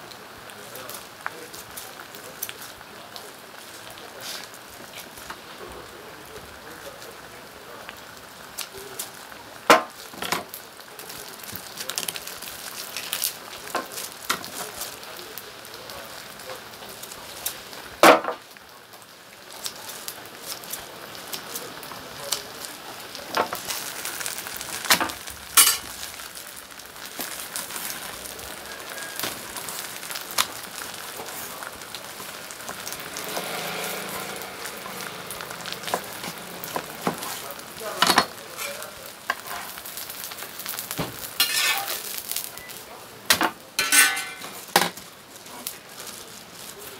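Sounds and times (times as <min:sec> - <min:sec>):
frying sizzle: 0:00.0 - 0:46.9.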